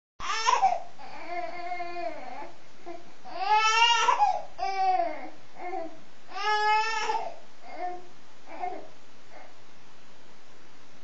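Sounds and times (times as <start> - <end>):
baby crying: 0.2 - 9.5.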